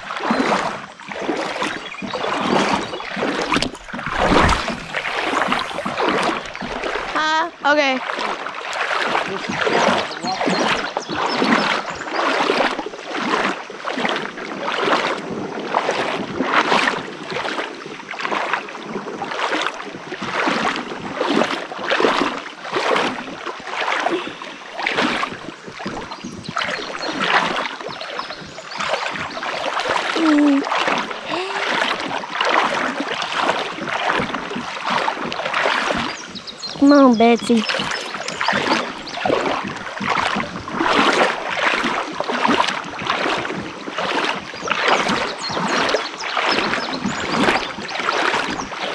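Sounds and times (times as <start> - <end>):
kayak paddle splashing: 0.0 - 48.9.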